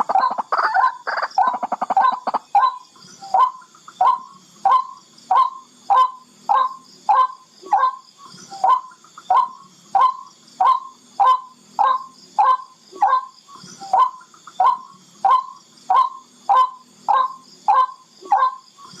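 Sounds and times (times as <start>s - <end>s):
rail bird calling: 0.0s - 19.0s.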